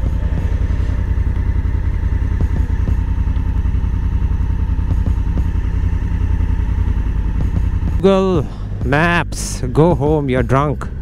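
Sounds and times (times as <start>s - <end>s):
motorcycle engine throbbing: 0.0s - 11.0s.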